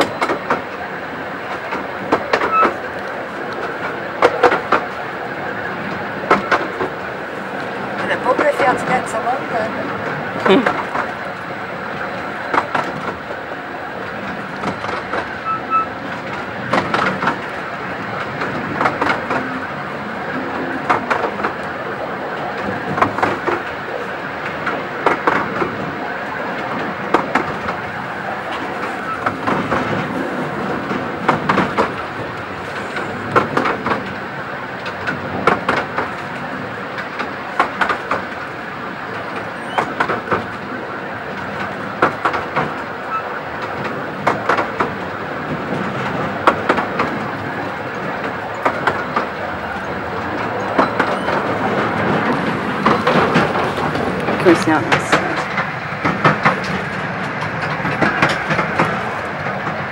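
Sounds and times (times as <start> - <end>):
railway carriage running on track: 0.0 - 59.9
wheels clacking over rail joints: 0.0 - 59.9.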